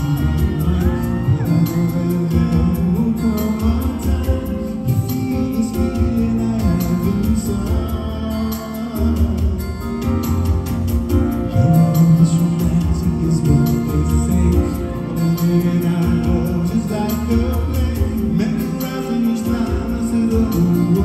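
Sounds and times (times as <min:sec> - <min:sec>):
band playing with steady beat: 0:00.0 - 0:21.0
man singing into a microphone: 0:00.0 - 0:21.0.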